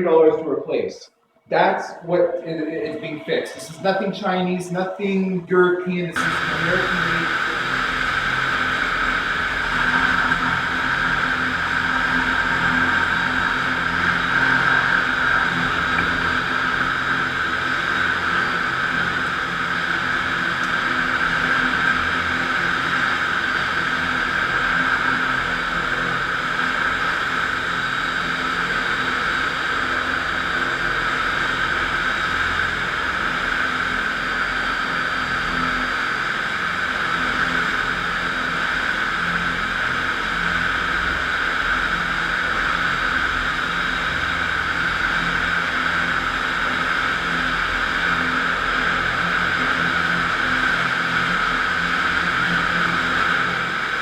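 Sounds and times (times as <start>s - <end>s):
concrete floor grinder running: 6.2s - 54.0s.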